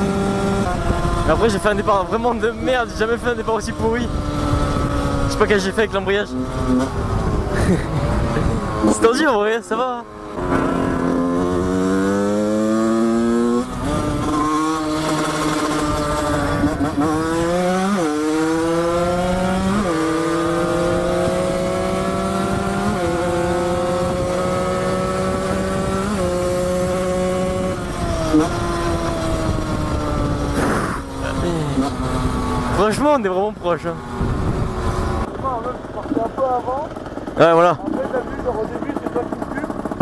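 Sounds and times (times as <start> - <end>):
dirt bike engine accelerating: 0.0 - 40.0.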